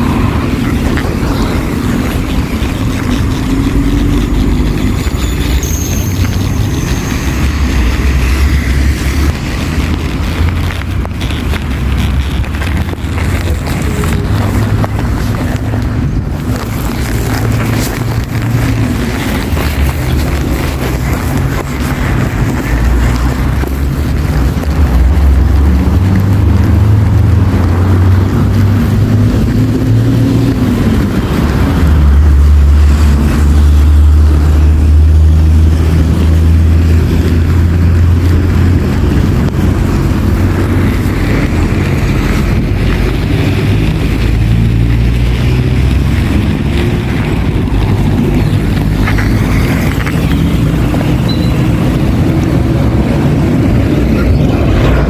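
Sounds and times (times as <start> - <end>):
heavy vehicles engine rumble: 0.0 - 55.0.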